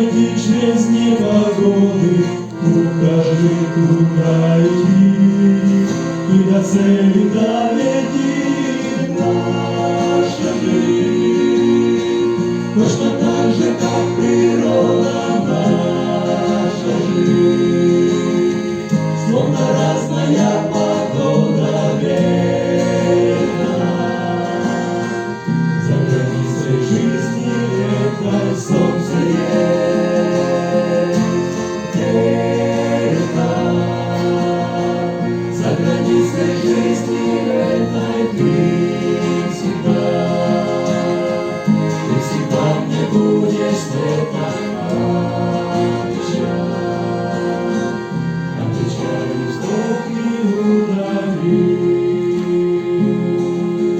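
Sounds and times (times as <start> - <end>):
instrumental accompaniment: 0.0 - 53.9
voices singing in harmony: 0.0 - 53.9.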